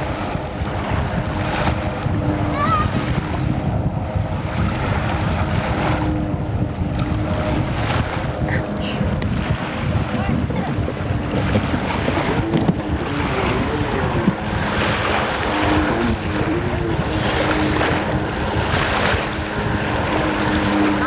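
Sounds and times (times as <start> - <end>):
jet ski engine: 0.0 - 21.0
water splashing: 0.0 - 21.0
wind buffeting microphone: 0.0 - 21.0.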